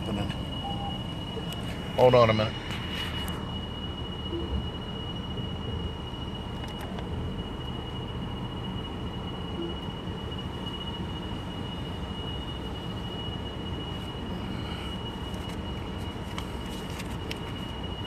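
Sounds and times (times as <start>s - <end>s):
car engine rumble inside cabin: 0.0s - 18.0s
faint high whine: 0.0s - 18.0s.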